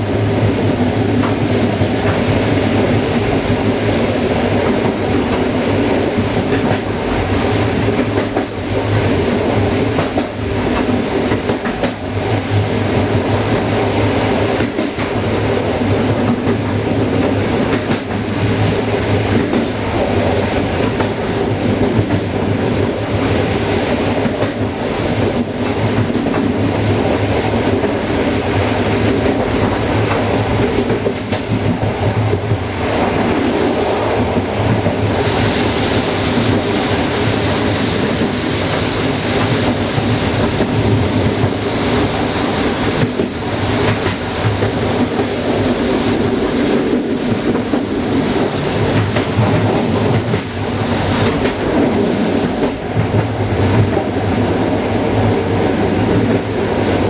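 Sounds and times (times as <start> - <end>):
train rumble and hum: 0.0 - 57.0.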